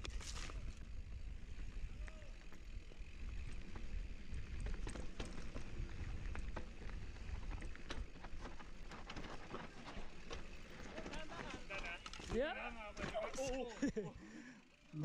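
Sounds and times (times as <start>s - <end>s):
tyre noise on dirt: 0.0s - 14.0s
bike clicking and rattling: 0.0s - 15.0s.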